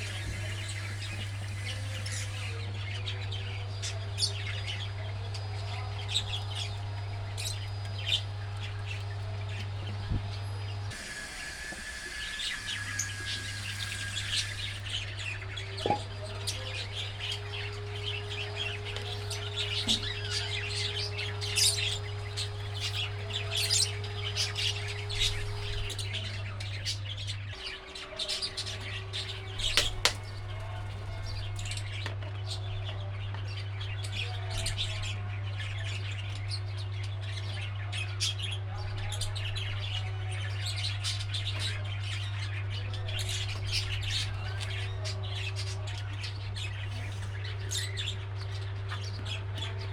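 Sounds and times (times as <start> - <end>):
birds chirping and chattering: 0.0 - 49.9
steady low hum: 0.0 - 49.9.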